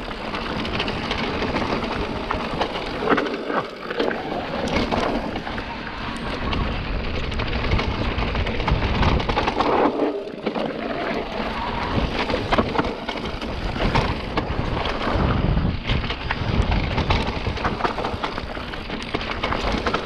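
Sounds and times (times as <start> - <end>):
bike rattling over rough ground: 0.0 - 20.0
wind rumbling on microphone: 0.0 - 20.0.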